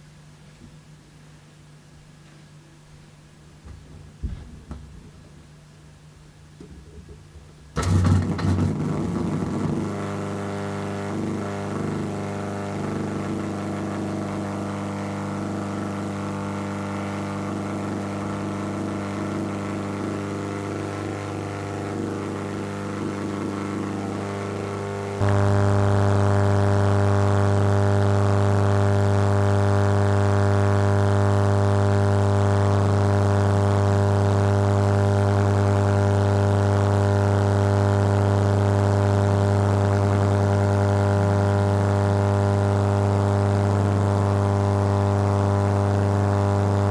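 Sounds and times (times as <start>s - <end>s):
turntable electrical hum: 0.0s - 46.9s.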